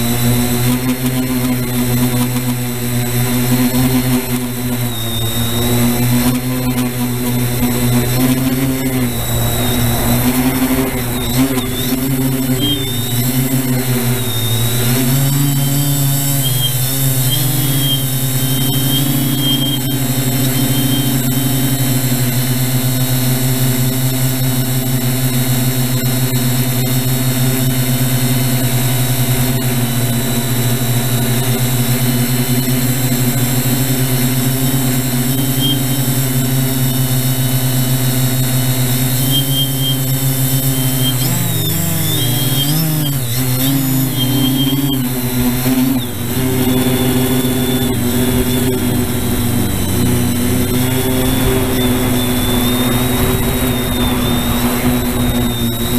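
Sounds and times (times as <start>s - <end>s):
quadcopter propeller hum and whine: 0.0s - 55.9s.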